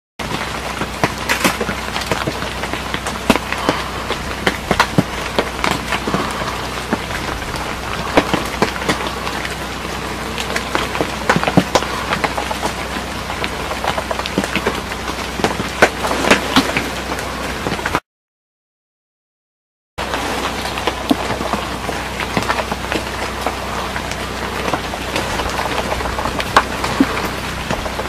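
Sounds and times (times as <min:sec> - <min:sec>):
rain pattering: 0:00.2 - 0:18.0, 0:20.0 - 0:28.0.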